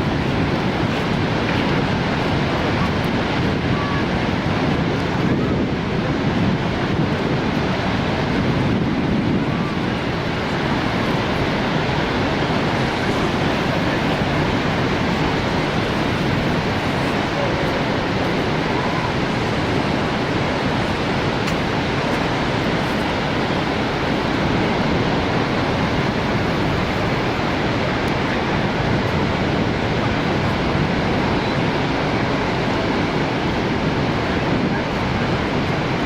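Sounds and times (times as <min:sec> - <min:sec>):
rush of falling water: 0:00.0 - 0:36.0.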